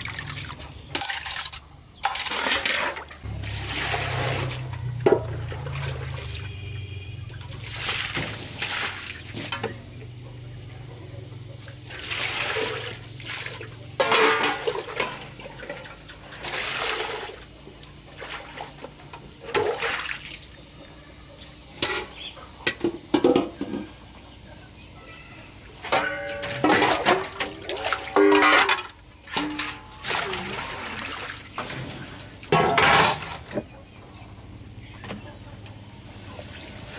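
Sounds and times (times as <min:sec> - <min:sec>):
water pouring and splashing: 0:00.0 - 0:10.1, 0:11.6 - 0:23.9, 0:25.4 - 0:33.6, 0:35.8 - 0:36.9.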